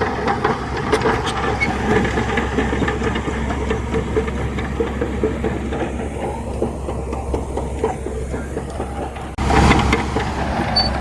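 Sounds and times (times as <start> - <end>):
diesel engine hum: 0.0 - 11.0.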